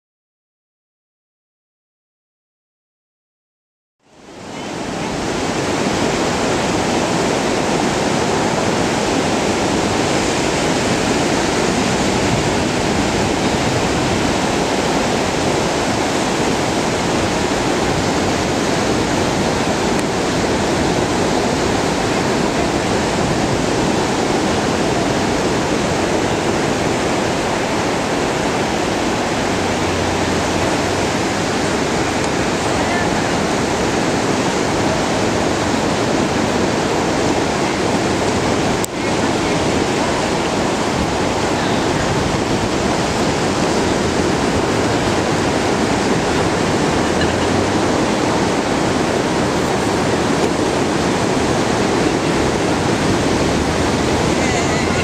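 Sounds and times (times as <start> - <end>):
ocean surf breaking: 4.1 - 55.0.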